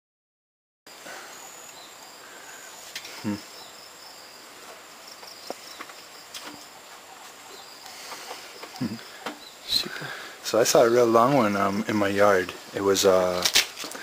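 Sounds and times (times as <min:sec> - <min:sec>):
insects trilling: 0:00.9 - 0:14.0.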